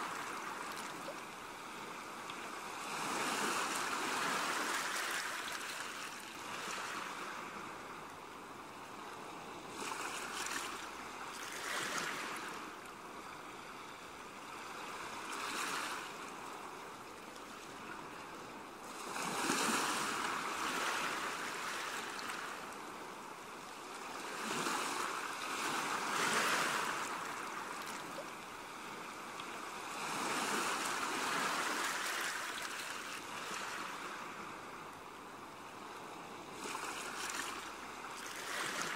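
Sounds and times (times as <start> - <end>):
sea waves washing in: 0.0 - 38.9.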